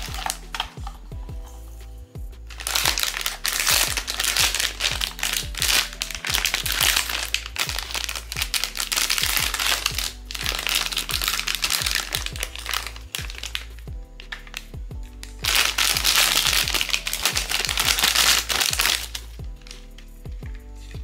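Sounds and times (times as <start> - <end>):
packaging crinkling: 0.0 - 0.9, 2.5 - 20.0
background music with steady beat: 0.0 - 21.0.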